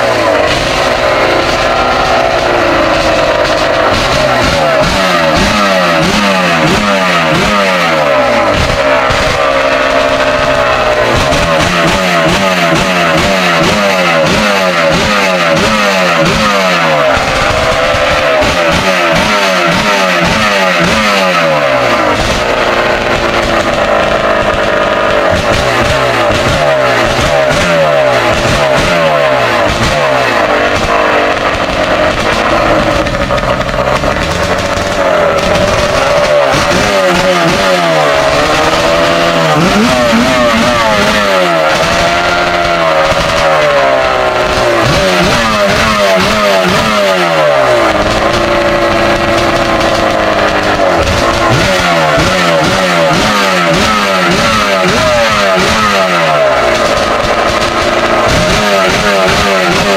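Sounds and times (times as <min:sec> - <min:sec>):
two-stroke boat engine revving: 0:00.0 - 0:59.9.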